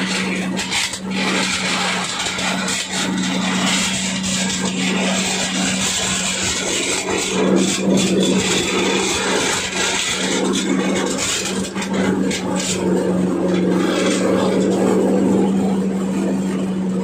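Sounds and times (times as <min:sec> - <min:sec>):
nuts scraping in husking drum: 0:00.0 - 0:16.7
diesel engine hum: 0:00.0 - 0:17.0.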